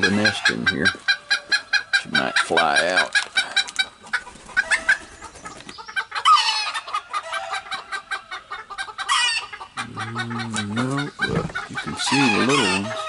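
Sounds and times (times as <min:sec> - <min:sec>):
chickens clucking: 0:00.0 - 0:13.0
loud long chicken calls: 0:00.0 - 0:13.0.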